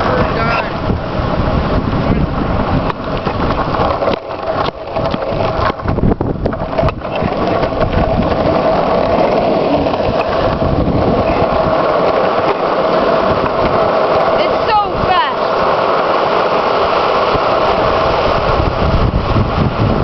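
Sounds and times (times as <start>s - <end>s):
longboard wheels rolling on asphalt: 0.0s - 20.0s
wind buffeting microphone: 0.0s - 20.0s.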